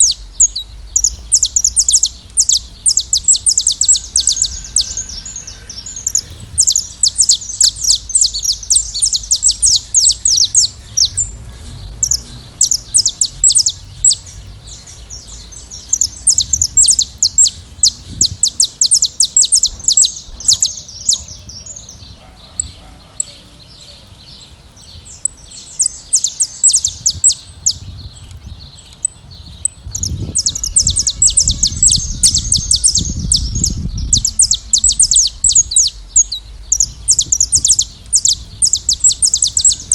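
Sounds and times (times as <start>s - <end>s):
low rumble: 0.0s - 22.9s, 24.1s - 39.9s
finches chirping and singing: 0.0s - 39.9s.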